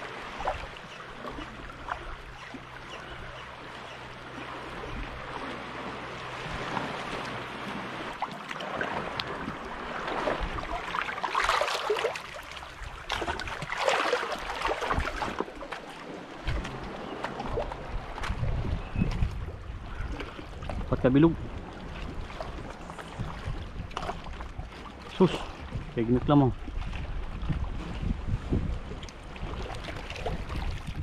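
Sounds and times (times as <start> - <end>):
sea water splashing on shore: 3.7 - 31.0.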